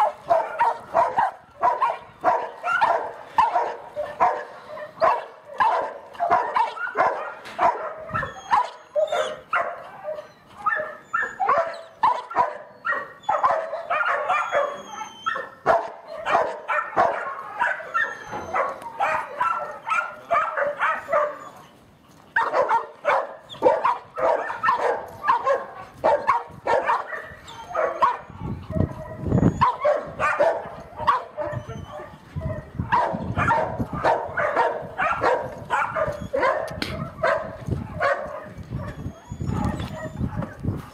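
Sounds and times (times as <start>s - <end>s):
dog barking rapidly: 0.0s - 9.8s, 10.7s - 21.5s, 22.4s - 40.2s.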